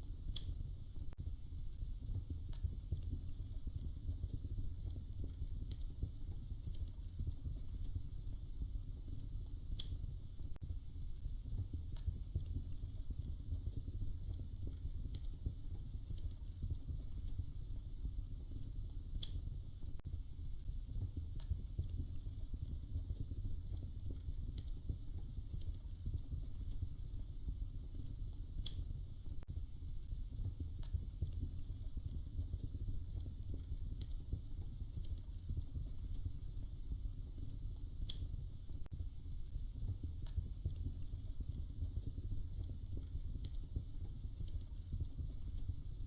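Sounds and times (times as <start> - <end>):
fire crackles and pops: 0.0 - 46.0
wood fire rumbling: 0.0 - 46.0.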